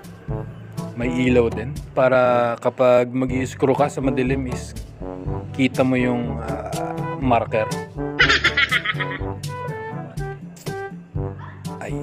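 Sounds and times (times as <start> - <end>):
background music with low beat: 0.0 - 2.3, 3.3 - 12.0.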